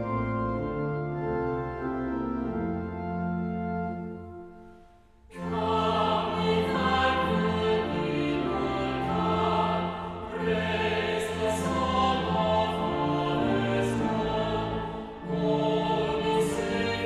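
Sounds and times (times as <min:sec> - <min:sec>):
choir singing a hymn: 0:00.0 - 0:17.0
organ chords: 0:00.0 - 0:17.0.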